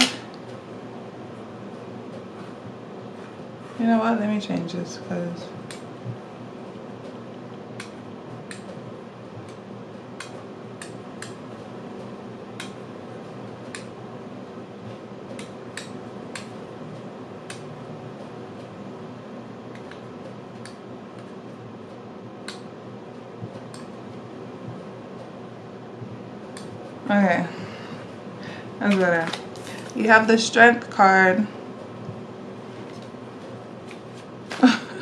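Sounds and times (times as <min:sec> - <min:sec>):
room hum: 0:00.0 - 0:35.0.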